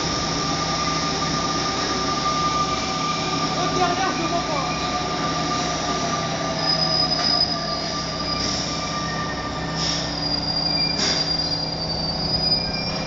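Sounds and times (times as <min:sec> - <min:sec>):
train rumble: 0:00.0 - 0:13.0
train wheels squealing: 0:00.0 - 0:13.0.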